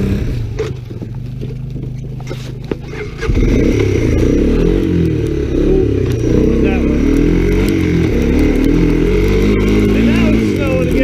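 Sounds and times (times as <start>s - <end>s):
three-wheeler engine revving: 0.0s - 11.0s.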